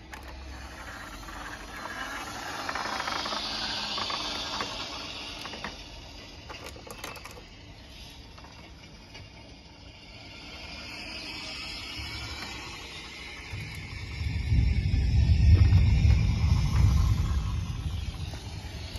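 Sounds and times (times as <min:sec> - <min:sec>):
toy truck wheels rolling on wood: 0:00.0 - 0:18.9.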